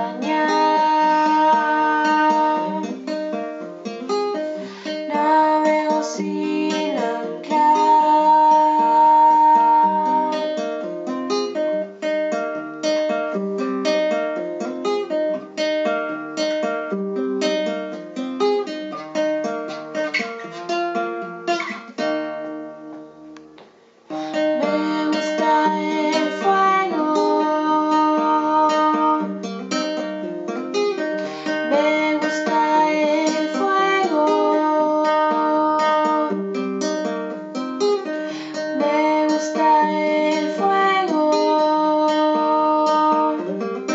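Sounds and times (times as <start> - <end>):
plucked acoustic guitar folk song: 0.0 - 43.9.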